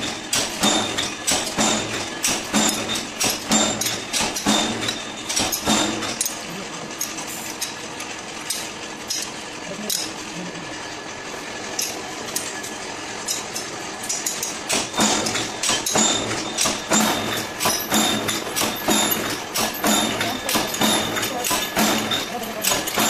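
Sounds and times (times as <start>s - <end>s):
power press clanking rhythmically: 0.0s - 23.0s
steady machine hum: 0.0s - 23.0s.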